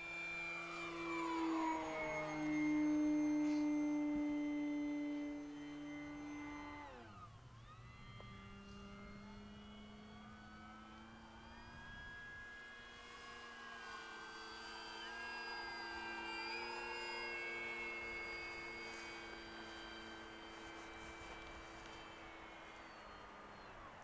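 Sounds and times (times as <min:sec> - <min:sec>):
electric model plane motor whining: 0:00.0 - 0:24.0.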